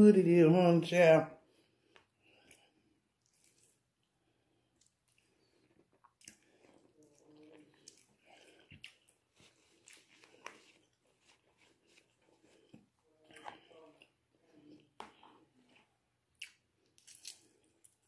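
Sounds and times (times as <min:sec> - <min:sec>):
chewing and lip smacking: 0:02.3 - 0:04.1, 0:04.8 - 0:18.0.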